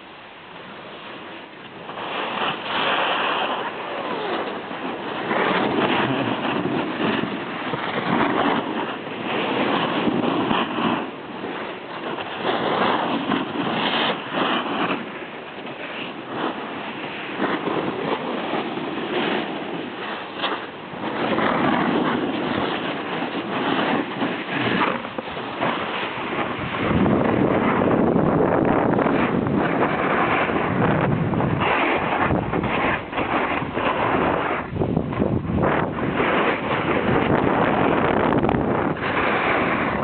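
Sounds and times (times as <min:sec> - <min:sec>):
wind buffeting the microphone: 0:00.0 - 0:40.0
skis scraping on snow: 0:00.9 - 0:40.0.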